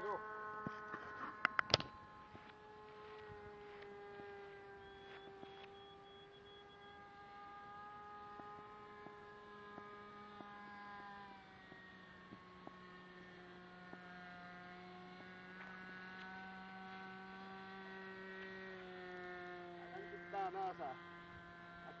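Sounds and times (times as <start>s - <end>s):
model airplane motor droning: 0.0s - 22.0s.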